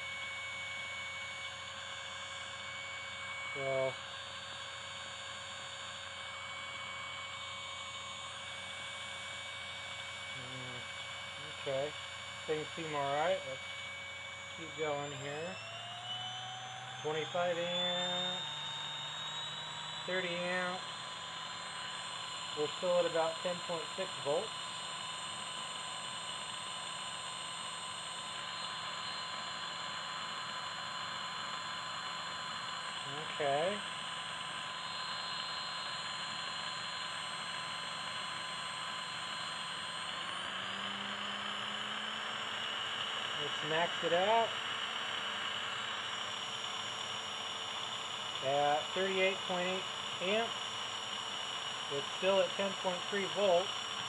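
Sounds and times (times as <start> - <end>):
starter motor spinning: 0.0 - 54.0.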